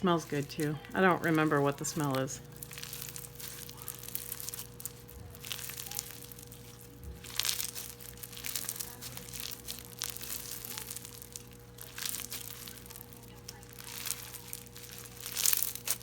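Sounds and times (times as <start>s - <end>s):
faint steady hum: 0.0s - 16.0s
slime squishing and popping: 0.6s - 16.0s.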